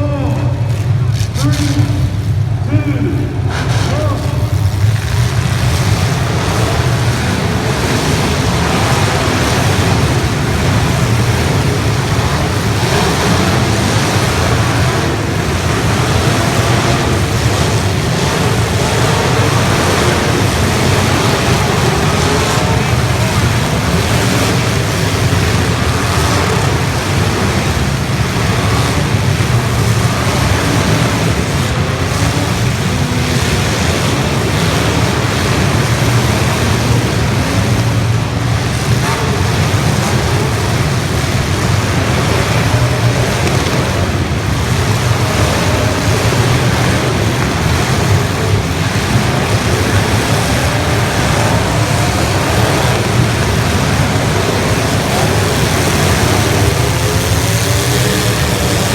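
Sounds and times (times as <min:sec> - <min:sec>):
car engines revving together: 0:00.0 - 0:58.9.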